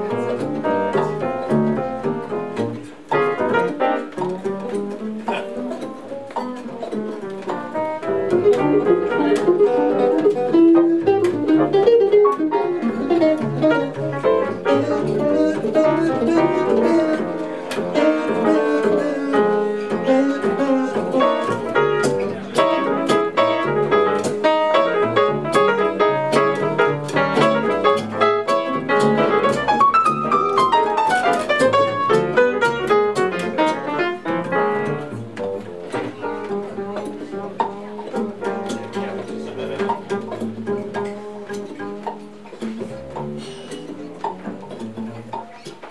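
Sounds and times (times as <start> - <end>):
guitar: 0.0 - 45.9
piano: 0.0 - 45.9
plucked upright bass: 0.0 - 45.9.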